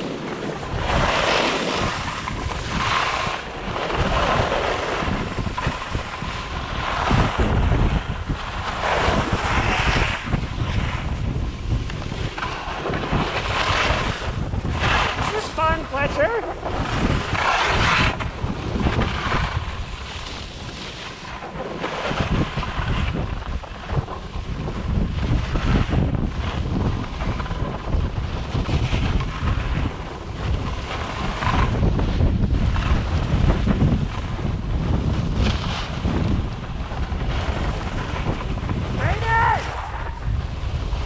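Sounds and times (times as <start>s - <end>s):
skis scraping over snow: 0.0s - 41.0s
wind buffeting microphone: 0.0s - 41.0s.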